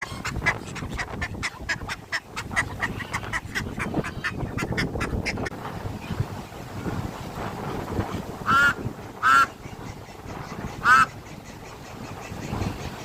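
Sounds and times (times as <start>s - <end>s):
ducks quacking: 0.0s - 5.5s, 8.1s - 13.0s.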